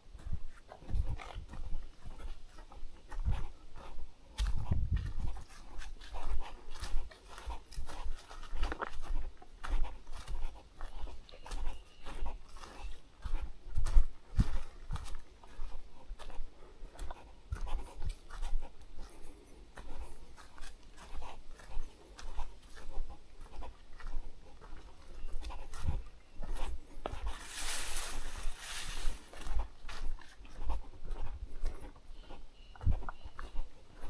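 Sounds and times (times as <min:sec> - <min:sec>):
footsteps on a trail: 0:00.0 - 0:34.0.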